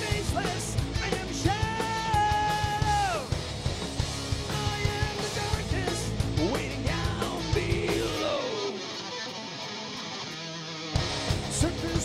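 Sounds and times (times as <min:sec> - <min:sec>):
metal band playing: 0:00.0 - 0:12.0.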